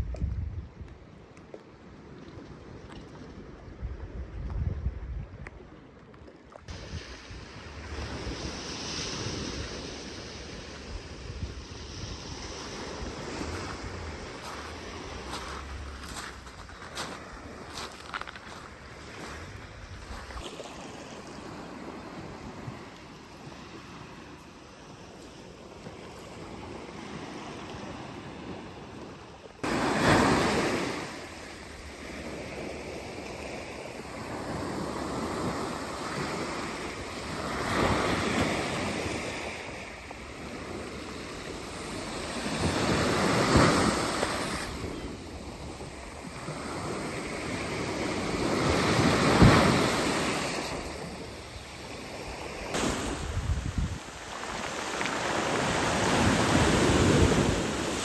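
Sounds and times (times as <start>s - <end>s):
wind on microphone: 0.0s - 1.2s, 1.9s - 6.0s, 6.7s - 24.4s, 25.8s - 58.0s
sea waves washing onto shore: 6.7s - 58.0s.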